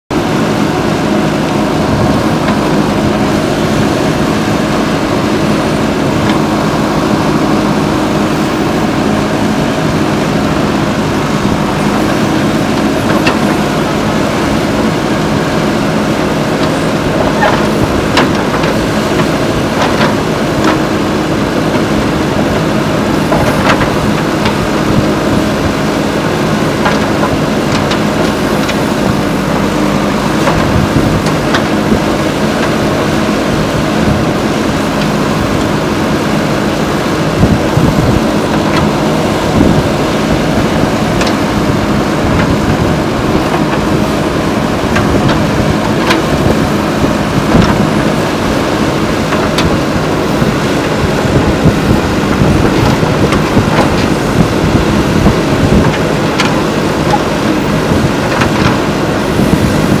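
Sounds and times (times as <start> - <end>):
diesel engine under load: 0.0 - 60.0
backhoe bucket clanks: 0.1 - 60.0.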